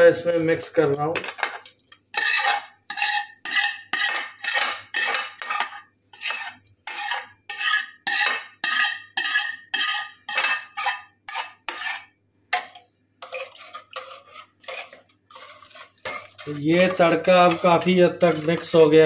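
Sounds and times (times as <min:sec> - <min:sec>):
spoon scraping cooking pot: 0:00.6 - 0:19.0.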